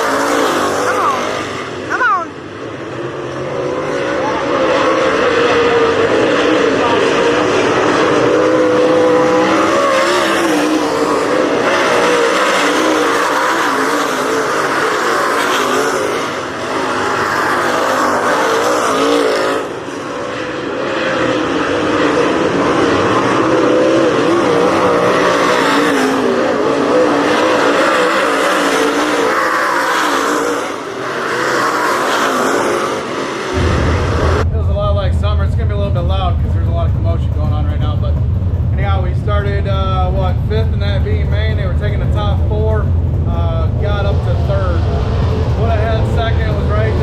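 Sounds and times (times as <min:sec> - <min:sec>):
race car engines running: 0:00.0 - 0:47.0.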